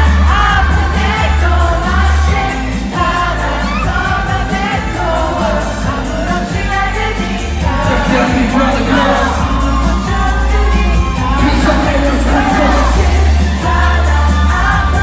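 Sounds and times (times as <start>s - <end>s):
pop song over sound system: 0.0s - 15.0s.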